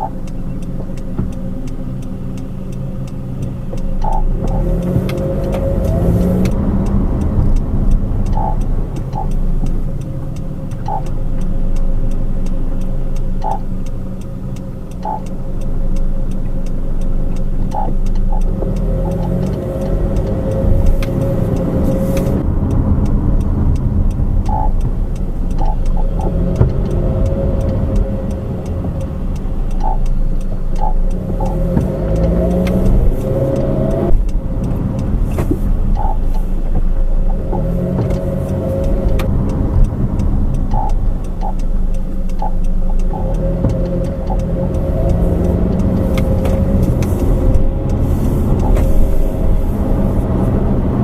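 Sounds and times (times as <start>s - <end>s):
car engine and road rumble: 0.0s - 51.0s.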